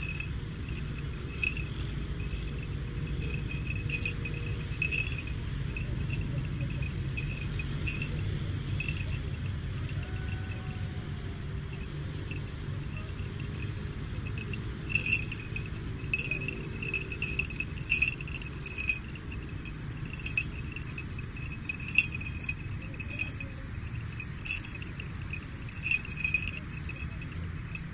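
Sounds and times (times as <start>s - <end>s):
low steady rumble: 0.0s - 27.9s
sheep bell clinking: 0.0s - 27.9s.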